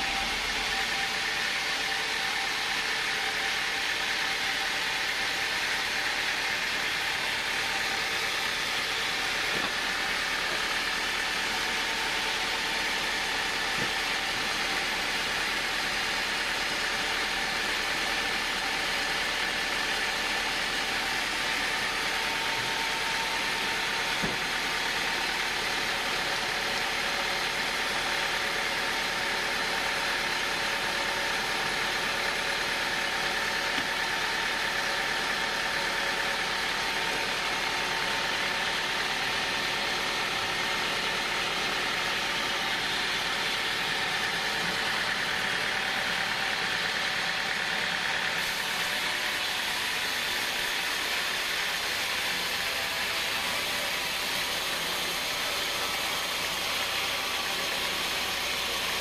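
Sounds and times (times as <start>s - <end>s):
band saw cutting through log: 0.0s - 59.0s.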